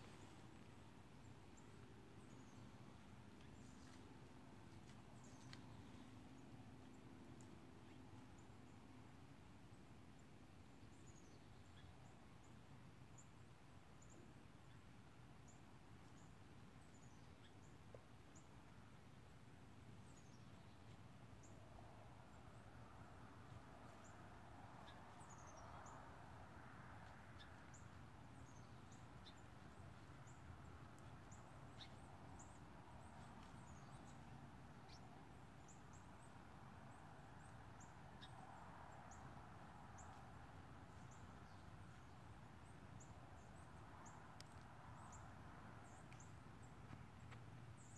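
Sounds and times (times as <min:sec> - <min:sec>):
small birds chirping: 0:00.0 - 0:09.2, 0:10.0 - 0:19.2, 0:19.9 - 0:47.9
faint steady hiss: 0:00.0 - 0:47.9.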